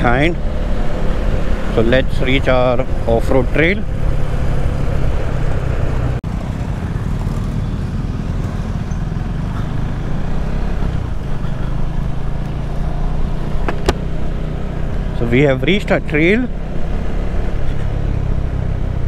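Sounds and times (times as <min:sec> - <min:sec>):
motorcycle engine running: 0:00.0 - 0:15.5
road and wind noise: 0:00.0 - 0:19.0.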